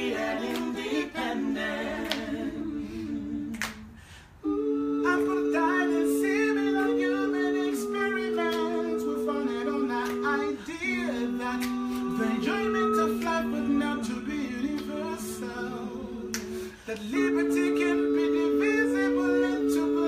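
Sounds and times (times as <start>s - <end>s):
voices singing in harmony: 0.0s - 20.0s.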